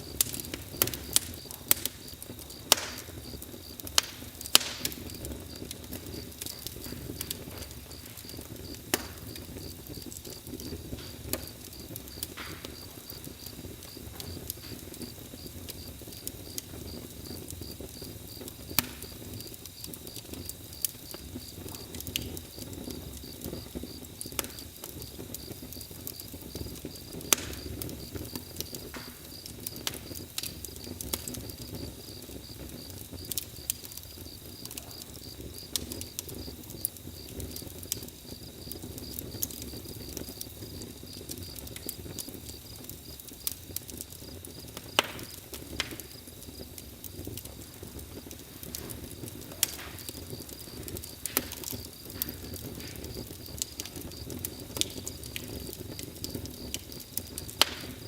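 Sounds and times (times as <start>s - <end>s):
campfire crackling: 0.0s - 58.0s
crickets chirping: 0.0s - 58.0s
fire pops: 0.0s - 58.0s.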